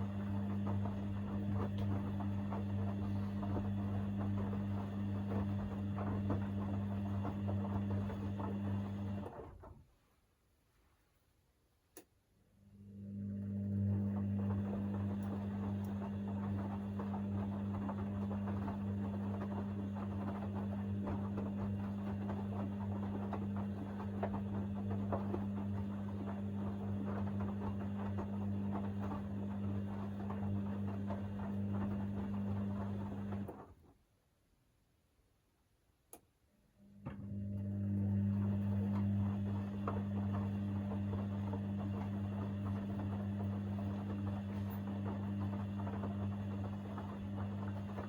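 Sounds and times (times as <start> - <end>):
washing machine motor humming: 0.0 - 10.0, 12.5 - 33.9, 36.7 - 48.0
wet laundry tumbling: 0.0 - 10.1, 13.3 - 34.0, 37.6 - 48.0.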